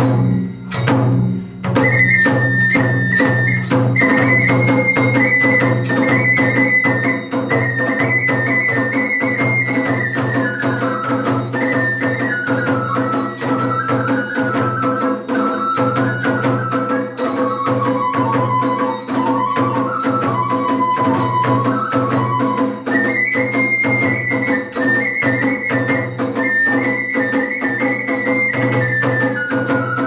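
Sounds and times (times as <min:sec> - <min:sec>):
bamboo flute high melody: 0:00.0 - 0:30.0
fast drum strikes: 0:00.0 - 0:30.0
small hand cymbals: 0:00.0 - 0:30.0.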